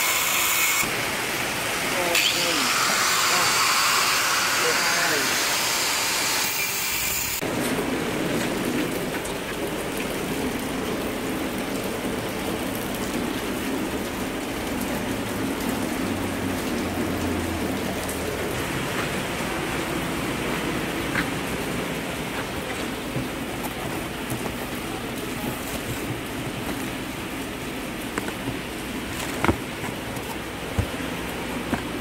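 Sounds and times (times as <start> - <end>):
heavy rain: 0.8 - 3.8, 7.4 - 32.0.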